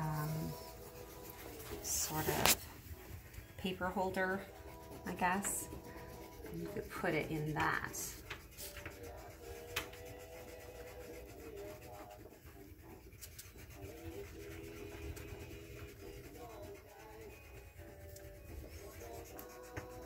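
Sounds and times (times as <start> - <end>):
crayon scratching on paper: 0.0 - 20.0.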